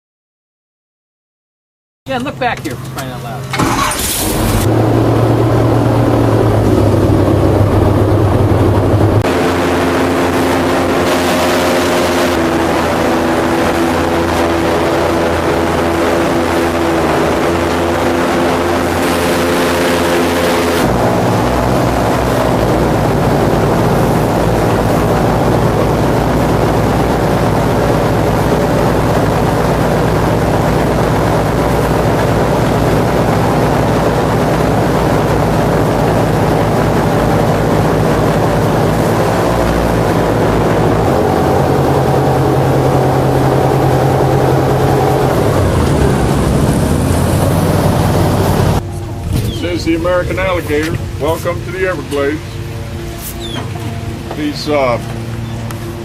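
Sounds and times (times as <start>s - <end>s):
airboat engine and propeller: 2.1s - 56.0s.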